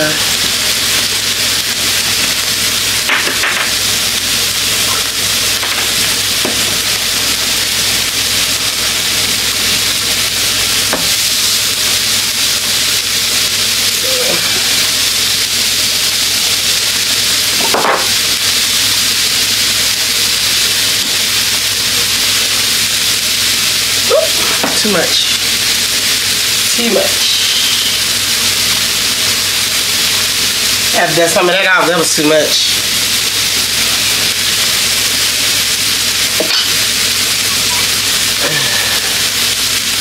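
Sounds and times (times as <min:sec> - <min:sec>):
burger patties sizzling: 0:00.0 - 0:40.0
seasoning shakers rattling: 0:00.0 - 0:40.0.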